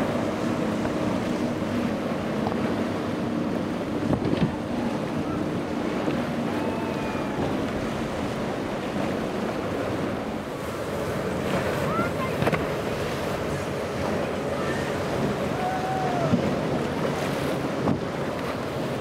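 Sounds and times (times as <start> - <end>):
outboard motors running: 0.0 - 19.0
water rushing off hull: 0.0 - 19.0
wind on microphone: 0.0 - 19.0.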